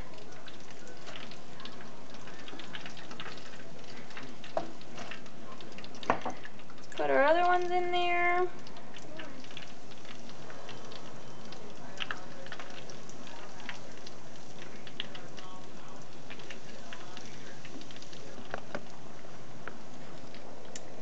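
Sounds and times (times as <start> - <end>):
food frying in hot oil: 0.0 - 21.0.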